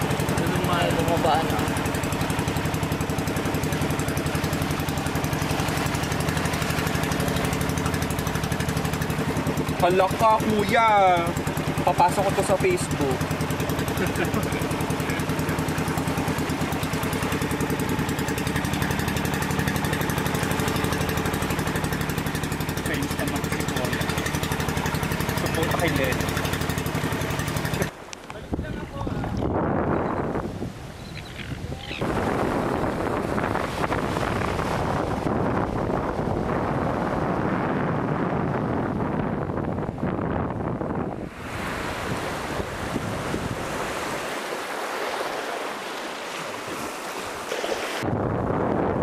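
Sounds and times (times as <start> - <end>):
wind buffeting microphone: 0.0 - 45.3, 46.2 - 49.0
boat engine running: 0.0 - 49.0
sea washing on shore: 0.0 - 49.0.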